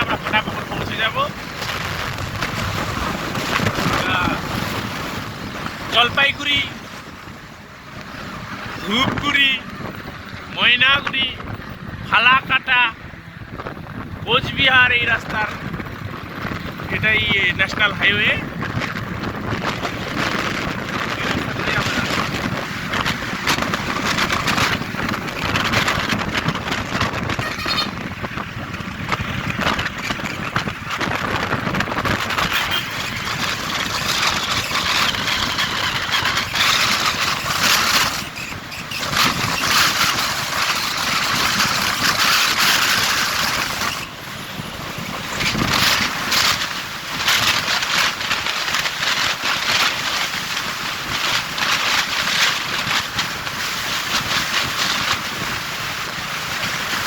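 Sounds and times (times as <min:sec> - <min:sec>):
motorbike engine and road noise: 0:00.0 - 0:57.0
wind rushing over microphone: 0:00.0 - 0:57.0.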